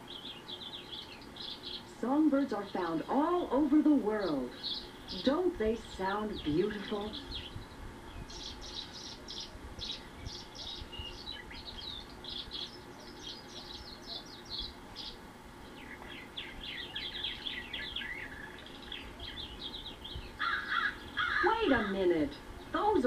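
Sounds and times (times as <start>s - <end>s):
songbirds singing through a speaker: 0.0s - 23.0s.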